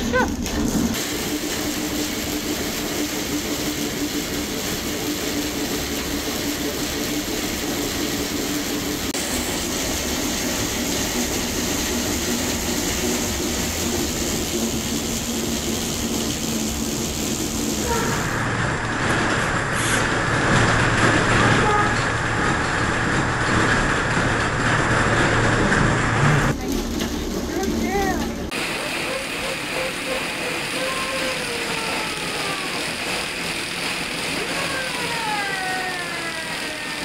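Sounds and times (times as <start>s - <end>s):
treadmill running with hum: 0.0s - 37.0s.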